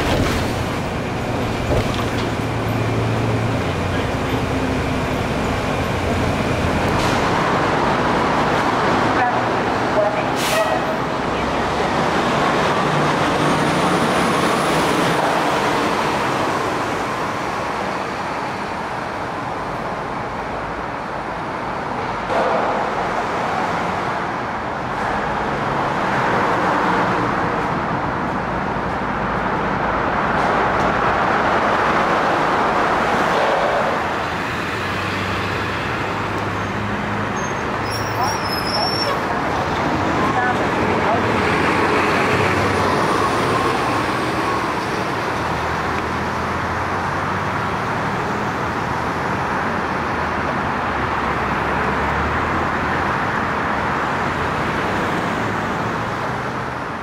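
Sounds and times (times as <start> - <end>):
buses and street traffic: 0.0 - 57.0.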